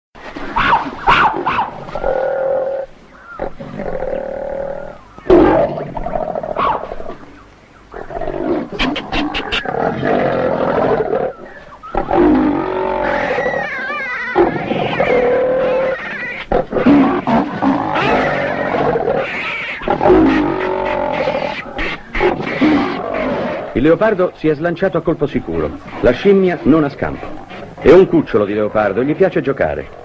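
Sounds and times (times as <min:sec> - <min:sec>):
leopard snarling and growling: 0:00.6 - 0:07.2, 0:07.9 - 0:24.3, 0:25.6 - 0:28.5.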